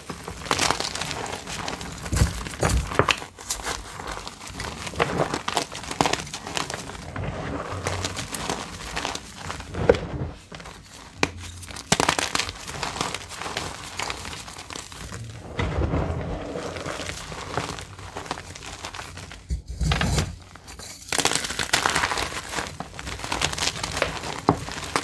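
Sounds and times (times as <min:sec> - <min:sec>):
chalk crunching and crumbling: 0:00.0 - 0:25.0.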